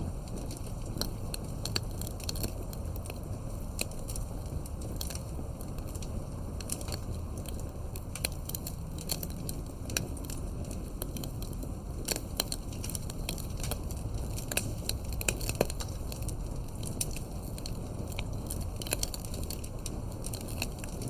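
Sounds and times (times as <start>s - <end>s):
campfire crackling: 0.0s - 21.0s
low rumble of fire: 0.0s - 21.0s
sharp pops and snaps: 0.0s - 21.0s.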